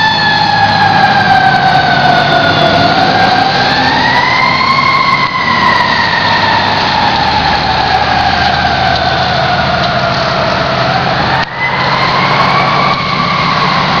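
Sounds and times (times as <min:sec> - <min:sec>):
fire engine siren wailing: 0:00.0 - 0:14.0
truck engine rumbling: 0:00.0 - 0:14.0.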